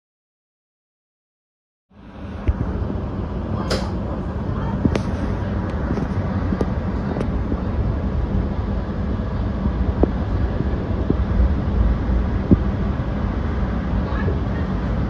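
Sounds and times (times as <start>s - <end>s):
train wheels rumbling on rail: 2.0s - 15.0s.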